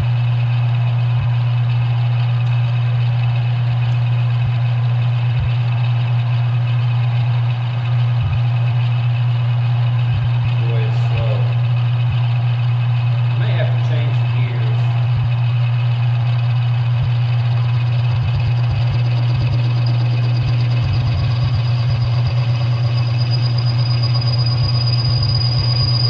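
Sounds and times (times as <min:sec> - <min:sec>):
lathe motor and gear hum: 0:00.0 - 0:26.0.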